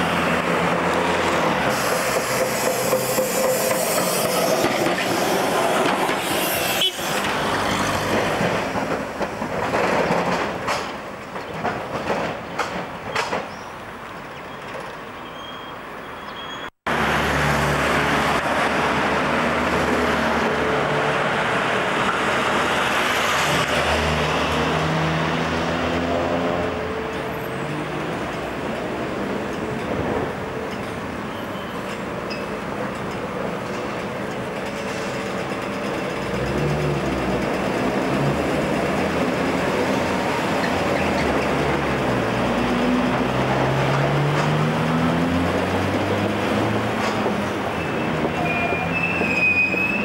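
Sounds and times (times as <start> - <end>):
road traffic: 0.0 - 50.0
tram wheels on rails: 0.0 - 50.0.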